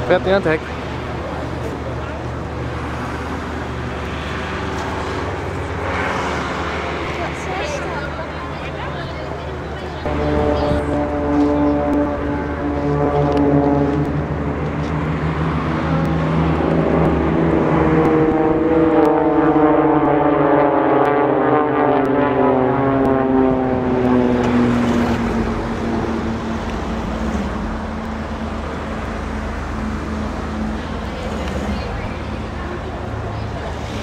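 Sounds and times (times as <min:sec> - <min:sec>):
propeller aircraft flying past: 0:00.0 - 0:34.0.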